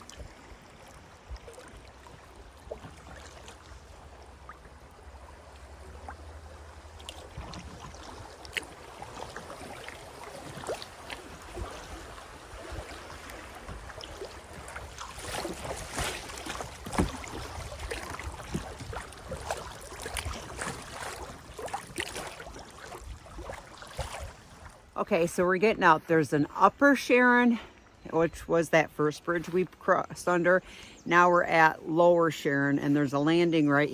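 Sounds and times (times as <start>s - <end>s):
paddle splashing water: 0.0s - 33.9s.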